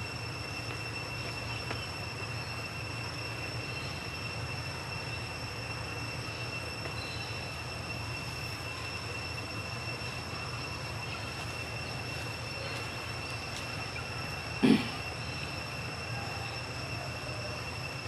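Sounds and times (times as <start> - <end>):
high-pitched whine: 0.0 - 18.0.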